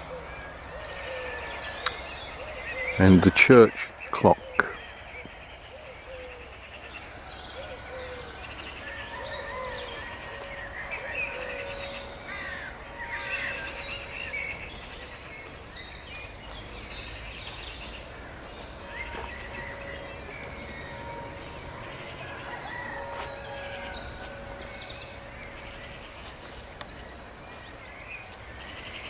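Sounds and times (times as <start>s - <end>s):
birds singing and chirping: 0.0s - 29.0s.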